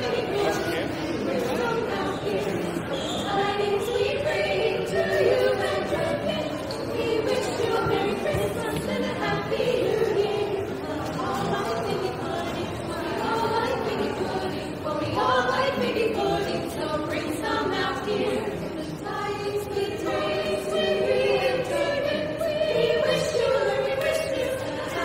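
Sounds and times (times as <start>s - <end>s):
vocal ensemble singing in harmony: 0.0s - 25.0s.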